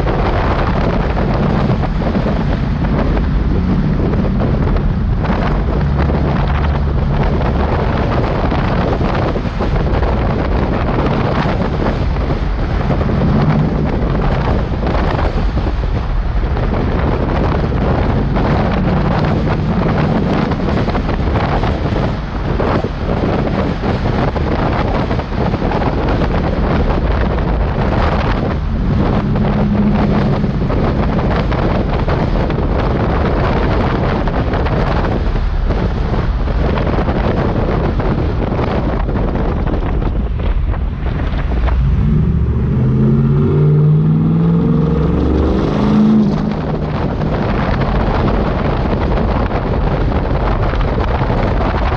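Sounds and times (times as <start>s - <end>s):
vehicle engine running: 0.0s - 51.9s
wind buffeting microphone: 0.0s - 51.9s.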